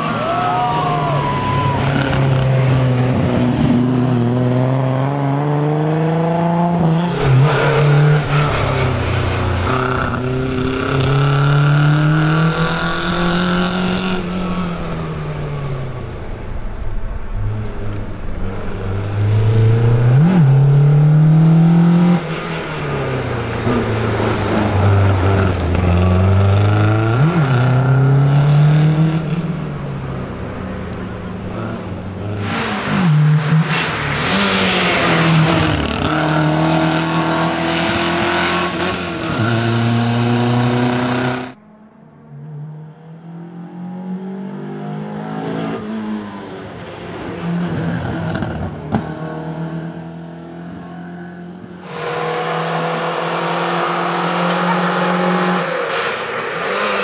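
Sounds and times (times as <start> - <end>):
rally car engine revving: 1.4 - 29.8, 31.4 - 41.6, 42.7 - 57.0.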